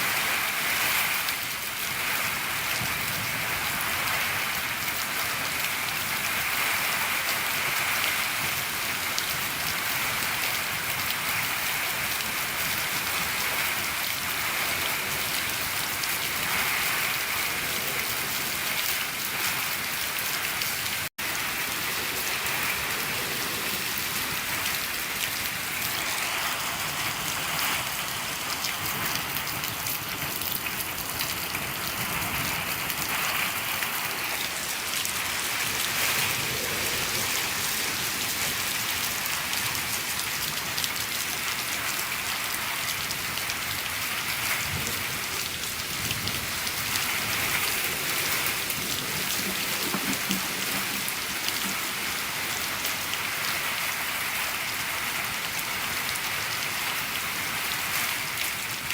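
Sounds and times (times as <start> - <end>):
rain drumming on a shed roof: 0.0 - 58.9.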